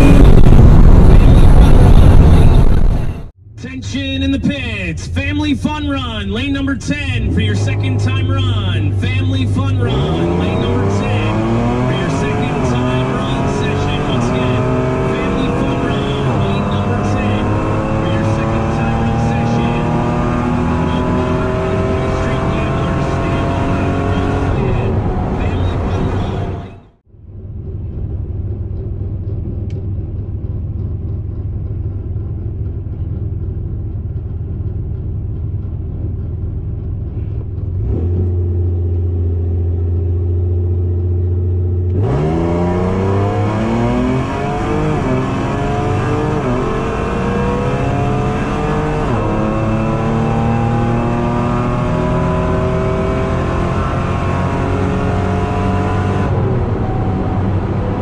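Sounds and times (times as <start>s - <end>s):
car engine accelerating: 0.0s - 3.3s, 6.9s - 58.0s.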